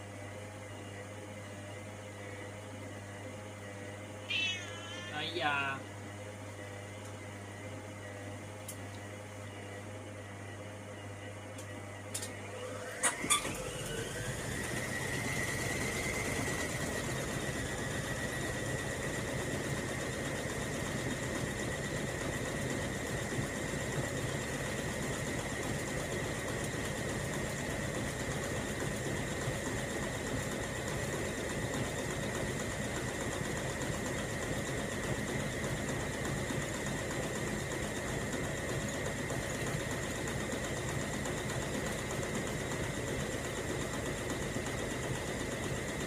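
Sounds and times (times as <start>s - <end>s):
washing machine drum motor whine: 0.0s - 46.0s.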